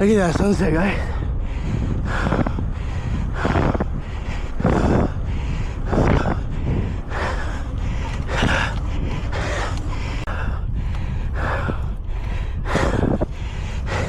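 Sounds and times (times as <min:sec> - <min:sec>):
wind on microphone: 0:00.0 - 0:14.0
man breathing hard: 0:00.9 - 0:14.0.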